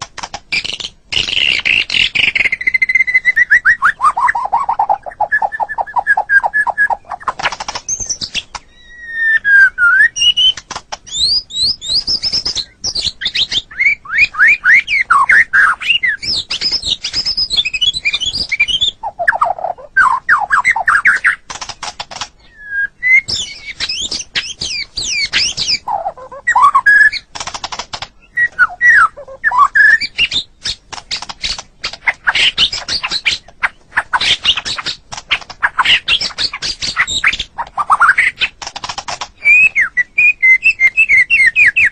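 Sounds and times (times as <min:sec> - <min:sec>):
bird clicking and chattering: 0:00.0 - 0:08.8, 0:10.2 - 0:41.8
bird singing whistled song: 0:00.5 - 0:21.4, 0:22.4 - 0:27.3, 0:28.2 - 0:35.0, 0:35.6 - 0:38.5, 0:39.4 - 0:41.9.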